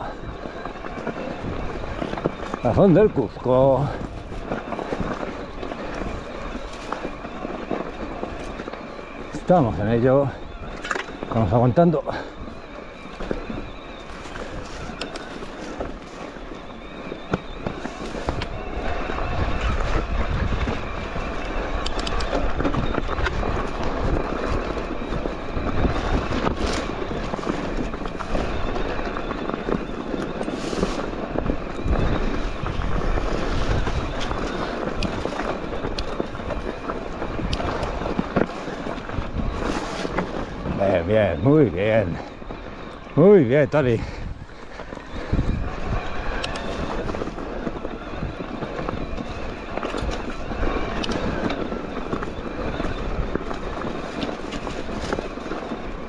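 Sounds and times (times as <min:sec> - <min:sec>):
bike rattling: 0:00.0 - 0:56.0
tyres crunching on rocks: 0:00.0 - 0:56.0.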